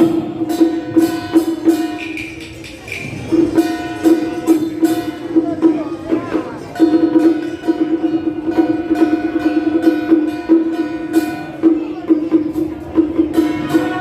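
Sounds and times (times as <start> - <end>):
light percussion strikes: 0.0 - 14.0
plucked string instrument: 0.0 - 14.0.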